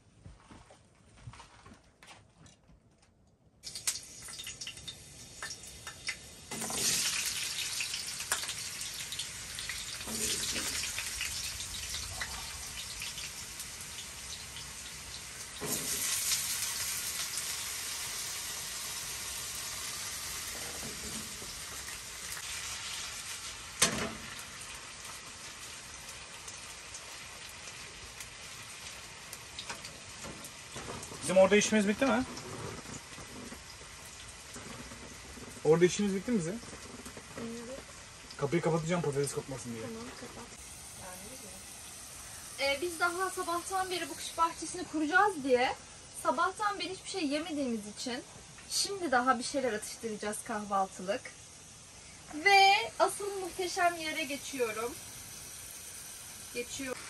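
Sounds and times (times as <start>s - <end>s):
potatoes sizzling in oil: 3.6s - 57.0s.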